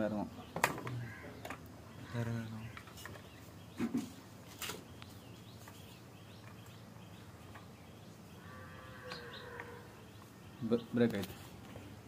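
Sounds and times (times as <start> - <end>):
low background noise: 0.0 - 12.0
small birds chirping: 0.0 - 12.0.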